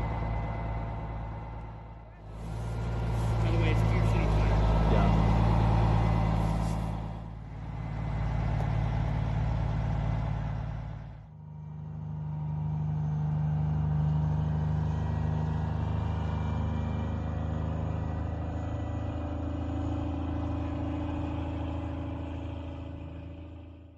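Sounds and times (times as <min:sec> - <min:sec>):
vehicle engines idling: 0:00.0 - 0:23.9.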